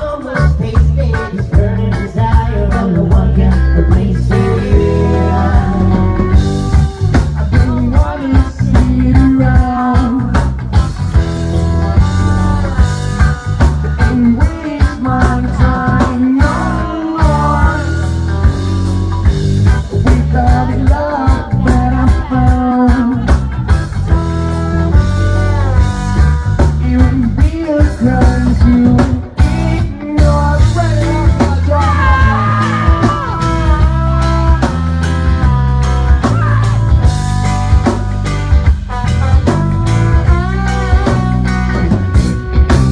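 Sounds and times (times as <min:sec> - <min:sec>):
person singing lead vocal: 0:00.0 - 0:18.6, 0:19.6 - 0:38.0
electric guitar: 0:00.0 - 0:42.9
heavy bass line: 0:00.0 - 0:42.9
steady drum beat: 0:00.0 - 0:42.9.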